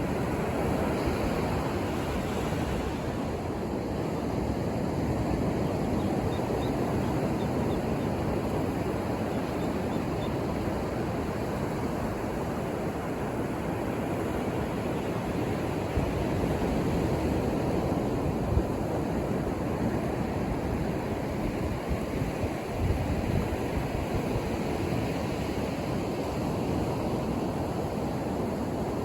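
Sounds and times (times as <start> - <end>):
ocean waves breaking on beach: 0.0 - 29.0.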